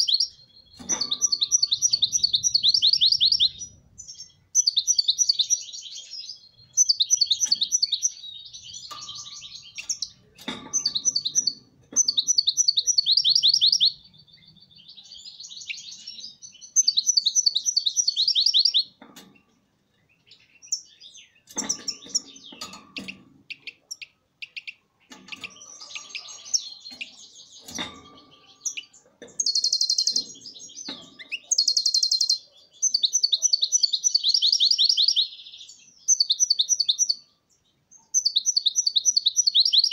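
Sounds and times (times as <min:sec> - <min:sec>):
goldfinch twittering and trilling: 0:00.0 - 0:19.0, 0:20.3 - 0:37.3, 0:38.1 - 0:39.9.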